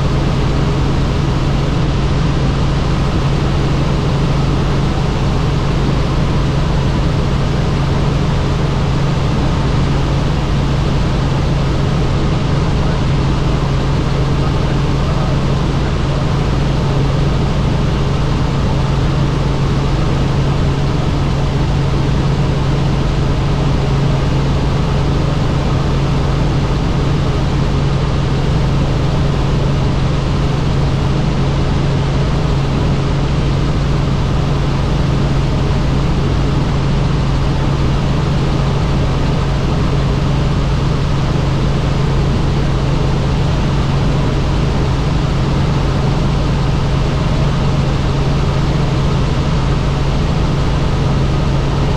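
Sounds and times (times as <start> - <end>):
helicopter engine and rotors droning: 0.0 - 51.9.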